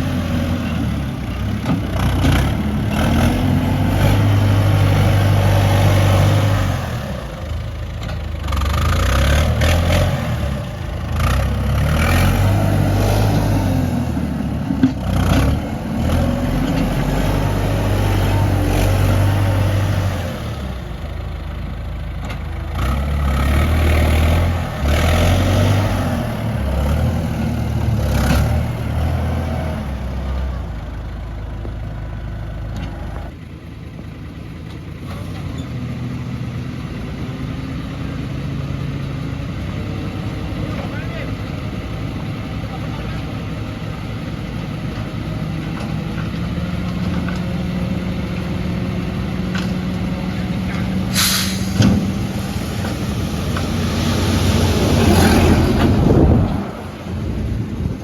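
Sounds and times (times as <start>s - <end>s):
heavy diesel engine working: 0.0s - 58.0s.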